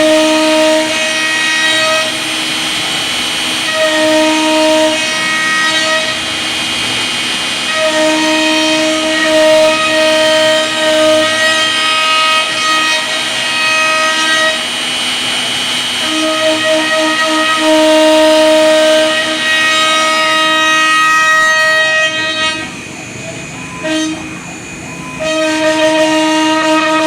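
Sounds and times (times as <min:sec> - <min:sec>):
wood router spindle whine: 0:00.0 - 0:27.0.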